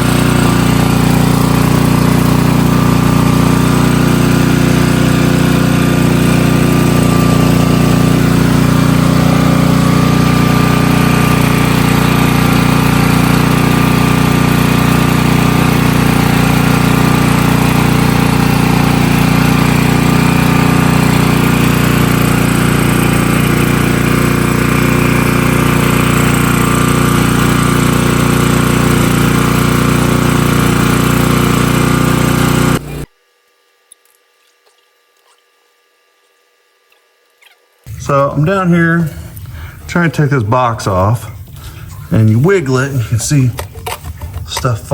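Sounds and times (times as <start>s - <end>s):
pressure washer engine running: 0.0s - 33.1s, 37.9s - 44.9s.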